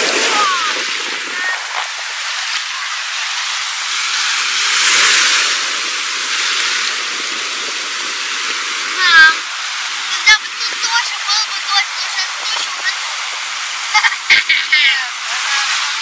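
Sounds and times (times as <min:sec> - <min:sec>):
sea surf breaking on shore: 0:00.0 - 0:16.0.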